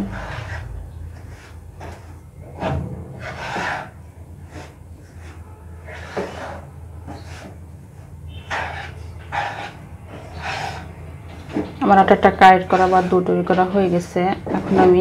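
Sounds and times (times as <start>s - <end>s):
wooden spatula scraping a frying pan: 0.0s - 10.9s, 12.5s - 15.0s.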